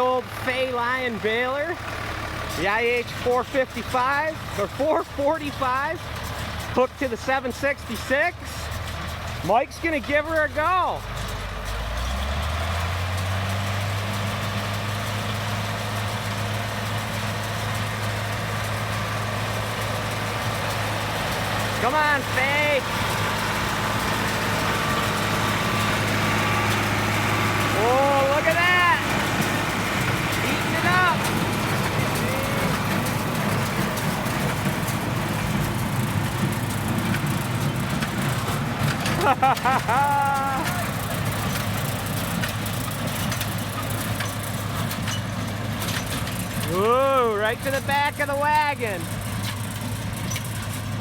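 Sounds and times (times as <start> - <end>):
square baler baling hay: 0.0 - 51.0
tractor engine running: 0.0 - 51.0.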